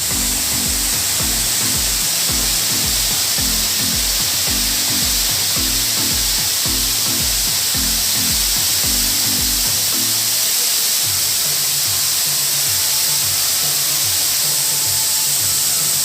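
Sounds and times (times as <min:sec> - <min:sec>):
background music with bass beat: 0:00.0 - 0:16.0
waterfall rushing: 0:00.0 - 0:16.0.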